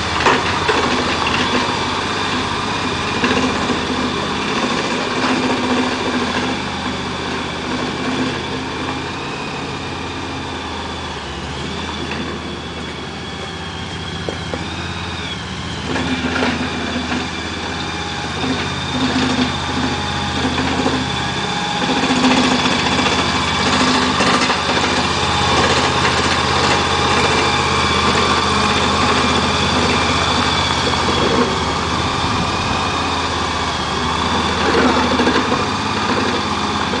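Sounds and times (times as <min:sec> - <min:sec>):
petrol engine running: 0:00.0 - 0:37.0.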